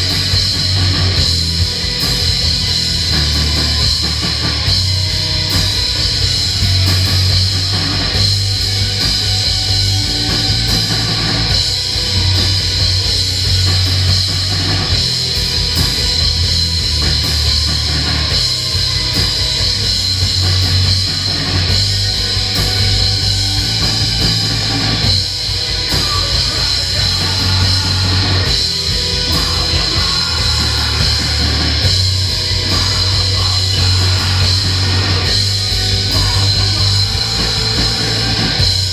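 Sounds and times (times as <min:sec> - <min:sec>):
distorted electric guitars: 0:00.0 - 0:38.9
drum kit: 0:00.0 - 0:38.9
heavy pulsing bass: 0:00.0 - 0:38.9.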